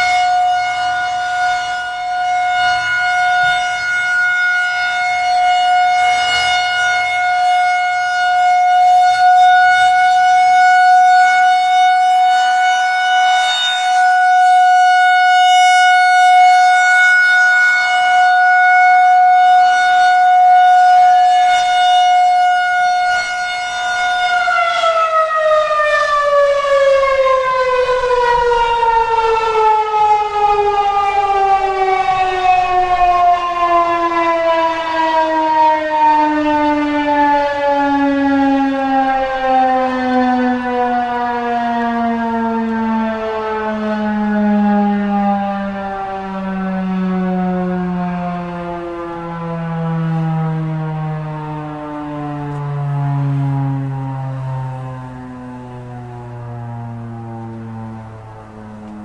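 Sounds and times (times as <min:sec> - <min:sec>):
tornado siren winding down: 0:00.0 - 0:59.0.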